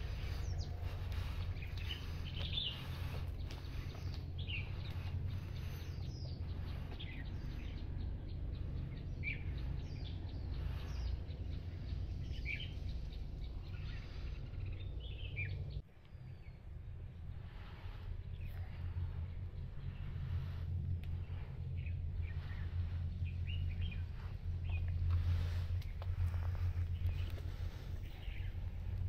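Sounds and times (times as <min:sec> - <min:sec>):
birds chirping: 0:00.0 - 0:29.0
steady low rumble: 0:00.0 - 0:29.0.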